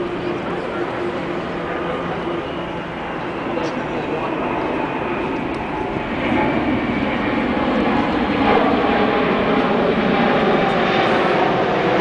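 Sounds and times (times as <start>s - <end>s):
jet engines rushing in flight: 0.0s - 12.0s.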